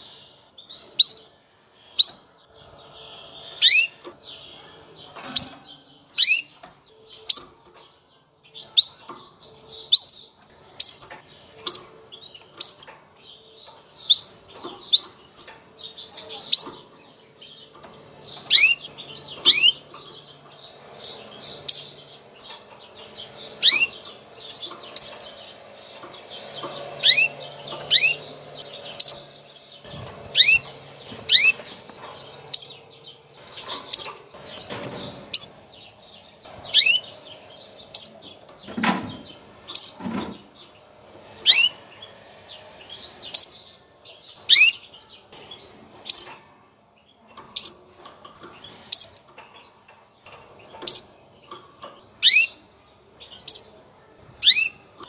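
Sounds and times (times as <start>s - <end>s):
canary chirping: 0.0s - 55.0s.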